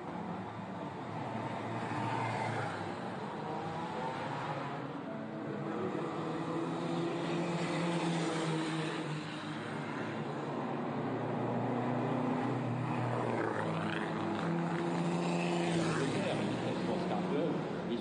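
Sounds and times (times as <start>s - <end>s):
racing car engine: 0.2s - 18.0s.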